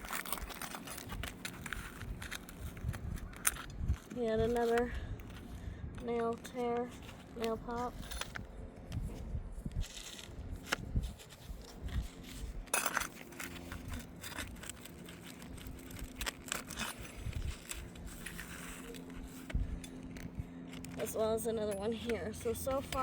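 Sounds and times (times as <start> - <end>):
roof shingles clicking and scraping: 0.0 - 8.8, 9.8 - 23.0.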